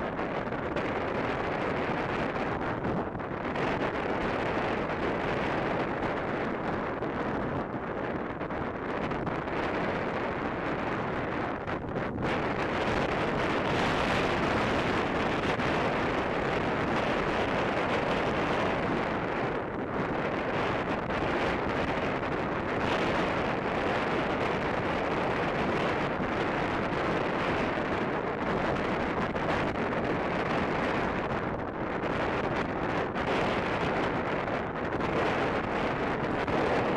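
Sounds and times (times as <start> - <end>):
strong wind buffeting microphone: 0.0 - 36.9.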